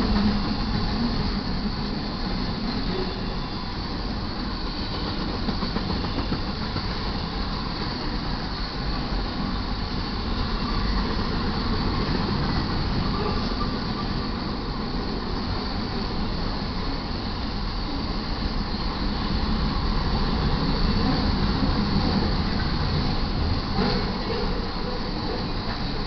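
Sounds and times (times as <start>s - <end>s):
freight train wheels rumbling on rail: 0.0s - 26.0s.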